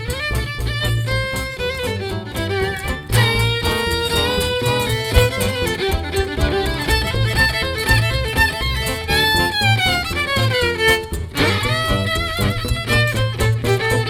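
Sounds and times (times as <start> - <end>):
fiddle melody: 0.0 - 14.0
live band playing: 0.0 - 14.0.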